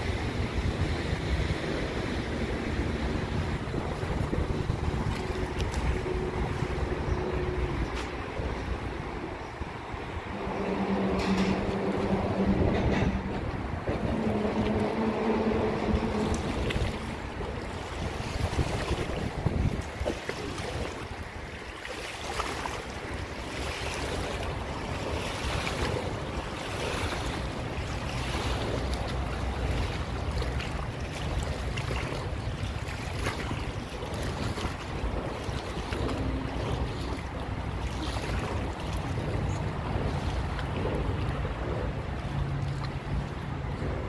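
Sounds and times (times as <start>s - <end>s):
fast-flowing river rushing: 0.0s - 43.8s
wind buffeting microphone: 0.0s - 44.0s.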